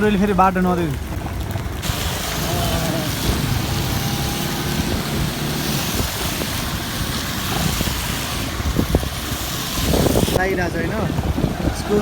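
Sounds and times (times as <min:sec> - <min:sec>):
low engine rumble: 0:00.0 - 0:12.0
road noise hiss: 0:00.0 - 0:12.0.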